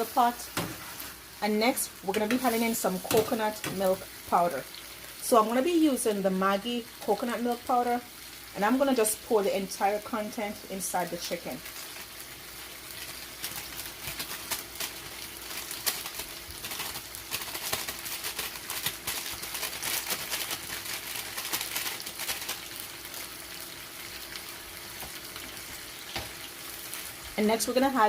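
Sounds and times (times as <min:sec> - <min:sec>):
chicken sizzling in a pan: 0:00.0 - 0:28.0.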